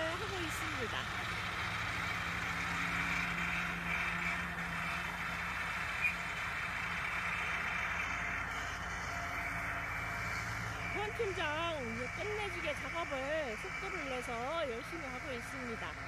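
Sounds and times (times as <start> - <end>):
spinning mower discs whirring: 0.0 - 16.0
tractor engine hum: 0.0 - 16.0.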